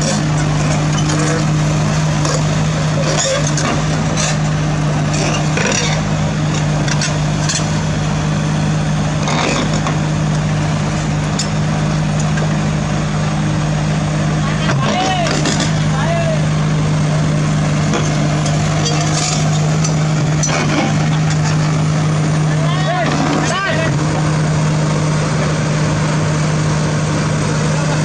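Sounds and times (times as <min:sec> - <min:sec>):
large diesel engine running: 0:00.0 - 0:28.0.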